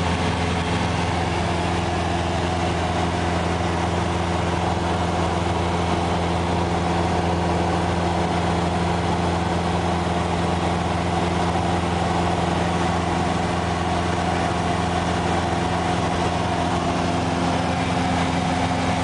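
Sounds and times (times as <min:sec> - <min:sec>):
light aircraft engine droning: 0:00.0 - 0:19.0.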